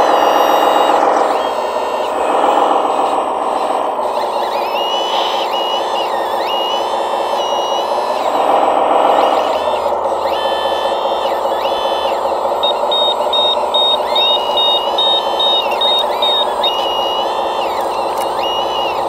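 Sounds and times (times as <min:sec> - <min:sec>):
diesel engine sound: 0:00.0 - 0:19.0
hydraulic pump whining: 0:00.0 - 0:19.0
reversing beeper: 0:00.0 - 0:19.0.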